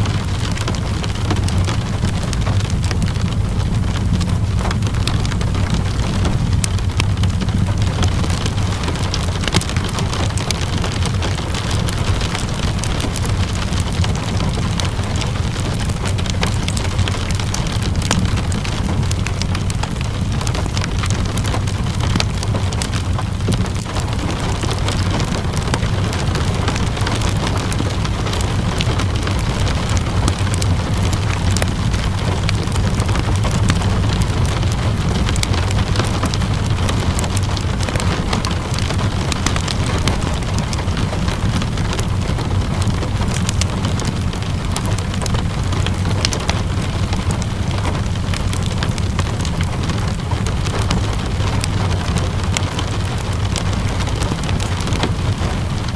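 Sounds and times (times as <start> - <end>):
low rumble: 0.0 - 55.4
fireplace crackling and popping: 0.0 - 55.9
steady rainfall: 0.0 - 55.9.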